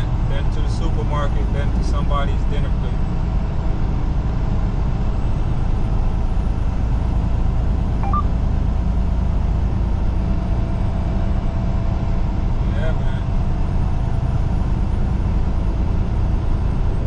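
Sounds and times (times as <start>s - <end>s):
truck engine rumble: 0.0s - 17.0s
tyres on highway: 0.0s - 17.0s.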